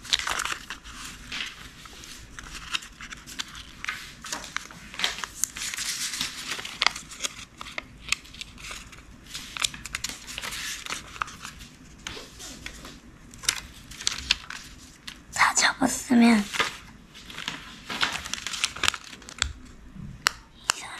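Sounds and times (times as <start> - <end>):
paper rustling and crinkling: 0.0 - 15.3, 16.1 - 19.8.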